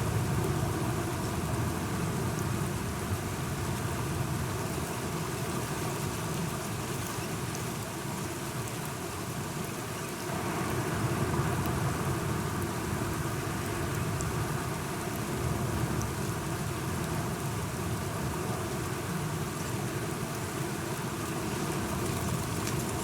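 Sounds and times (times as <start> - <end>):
steady rain falling: 0.1 - 23.0.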